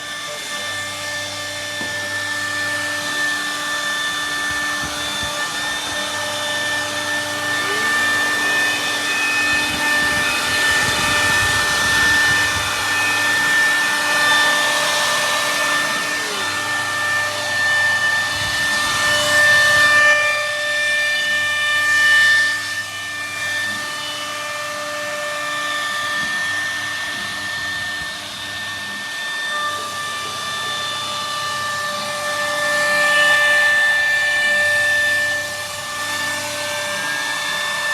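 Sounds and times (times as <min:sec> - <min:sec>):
cnc router spindle whine: 0:00.0 - 0:37.9
hiss of wood cutting: 0:00.0 - 0:37.9.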